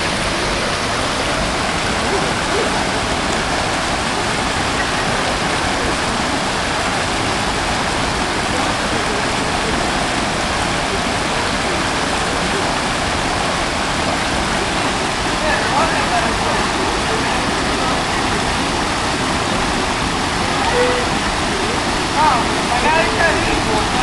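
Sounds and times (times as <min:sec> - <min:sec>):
waterfall pouring into a pool: 0:00.0 - 0:24.0.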